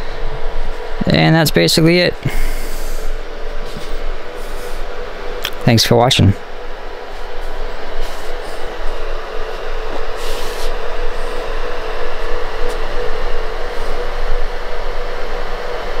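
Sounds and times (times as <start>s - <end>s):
server cooling fans: 0.0s - 16.0s
steady hum: 0.0s - 16.0s.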